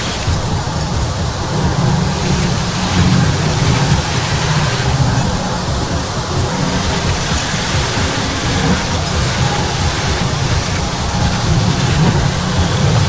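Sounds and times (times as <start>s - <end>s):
dense static noise: 0.0s - 13.0s
heavy low rumble: 0.0s - 13.0s.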